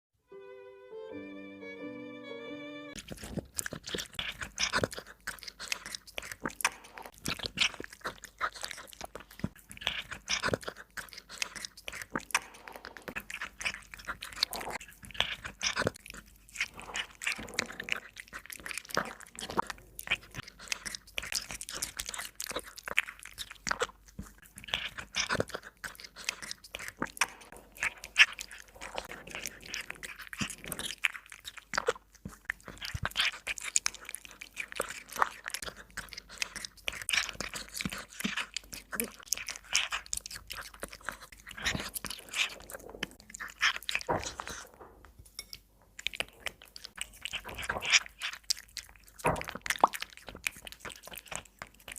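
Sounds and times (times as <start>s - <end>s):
cat crunching food: 3.0s - 51.9s.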